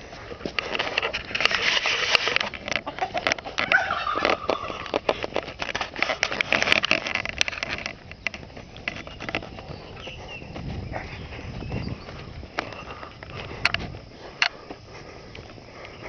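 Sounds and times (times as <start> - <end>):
footsteps on outdoor ground: 0.0 - 16.0.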